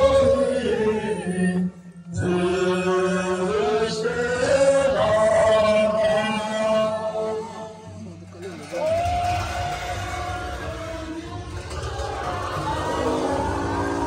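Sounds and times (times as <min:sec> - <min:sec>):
group singing long held notes: 0:00.0 - 0:08.1, 0:09.5 - 0:14.0.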